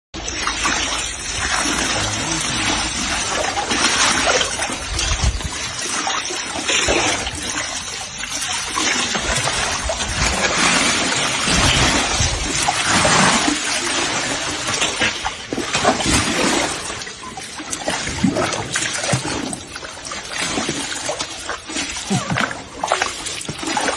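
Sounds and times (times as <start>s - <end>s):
water splashing and running: 0.2s - 23.9s.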